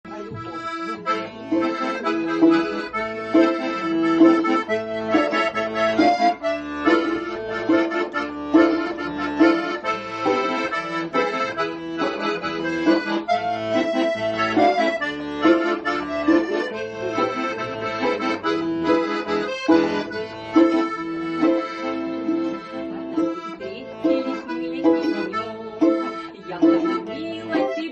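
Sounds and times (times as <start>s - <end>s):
accordion music: 0.0s - 27.9s
bass beat: 0.2s - 23.4s.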